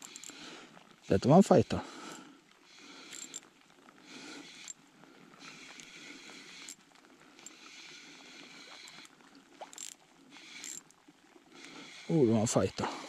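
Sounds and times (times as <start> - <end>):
fishing reel whirring and clicking: 0.0 - 12.9.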